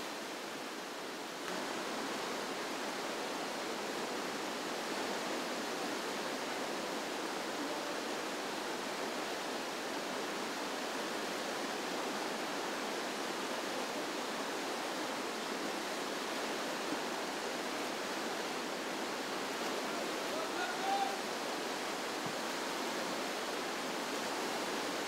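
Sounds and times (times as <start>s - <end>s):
river rapids rushing: 0.0s - 25.0s.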